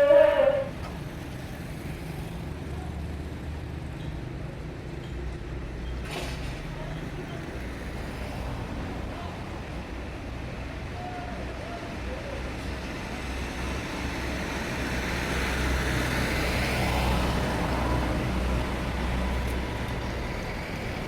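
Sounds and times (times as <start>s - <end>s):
road traffic engine drone: 0.0s - 21.0s.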